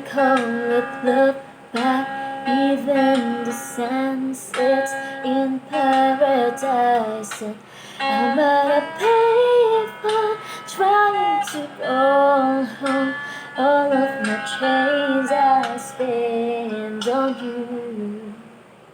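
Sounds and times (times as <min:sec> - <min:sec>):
woman singing: 0:00.0 - 0:18.6.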